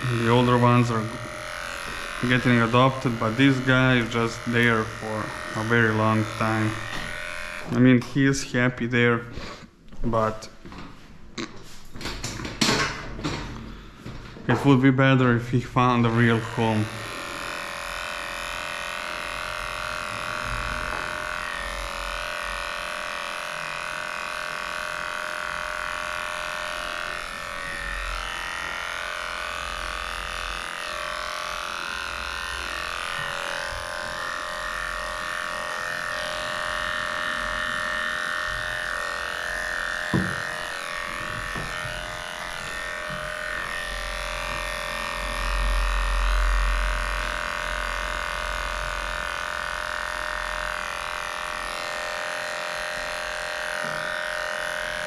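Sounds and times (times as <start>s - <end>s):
dog clippers running: 0.0s - 8.4s, 15.7s - 55.0s.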